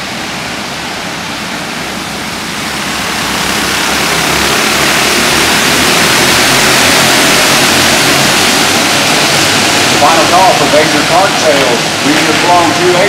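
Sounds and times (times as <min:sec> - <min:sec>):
go-kart engines racing: 0:00.0 - 0:13.0.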